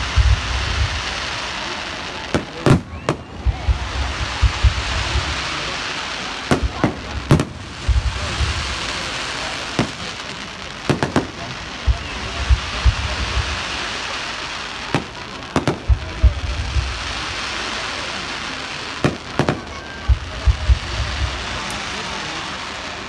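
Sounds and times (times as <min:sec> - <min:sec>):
fireworks bangs and thuds: 0:00.0 - 0:23.0
fireworks crackling: 0:00.0 - 0:23.0.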